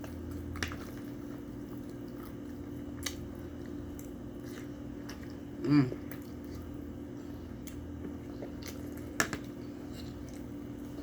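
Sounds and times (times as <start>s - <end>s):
steady low hum: 0.0s - 11.0s
wet chewing: 0.0s - 11.0s.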